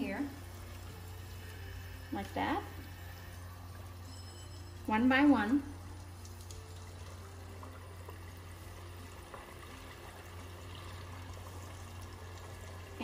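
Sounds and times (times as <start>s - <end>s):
low steady hum: 0.0s - 13.0s
oil sizzling and bubbling: 0.0s - 13.0s.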